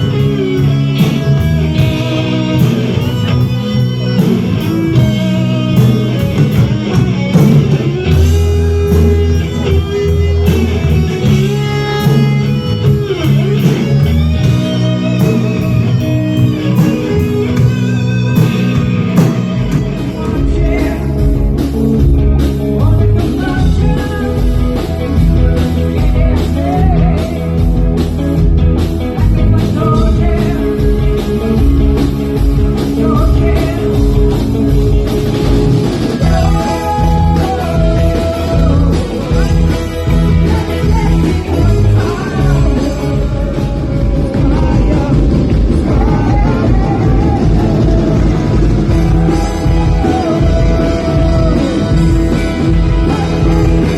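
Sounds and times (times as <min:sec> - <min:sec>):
person singing: 0:00.0 - 0:21.8, 0:22.4 - 0:27.8, 0:29.1 - 0:35.1, 0:36.1 - 0:53.9
bass and drums: 0:00.0 - 0:53.9
electric guitar: 0:00.0 - 0:53.9.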